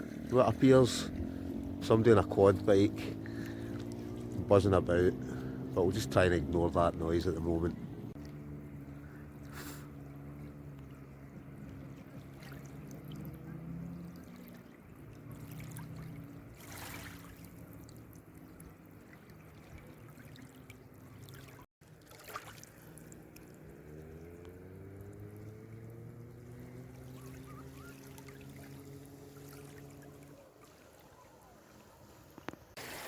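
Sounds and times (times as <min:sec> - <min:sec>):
faint quad bike engine revving: 0:00.0 - 0:21.7, 0:22.7 - 0:31.8.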